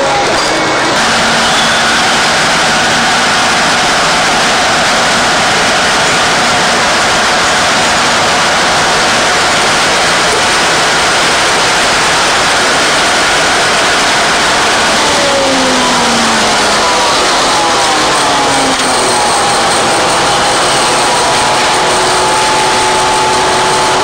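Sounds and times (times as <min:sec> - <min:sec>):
faint falling whine: 0:00.0 - 0:24.0
locomotive diesel engine running: 0:00.0 - 0:24.0.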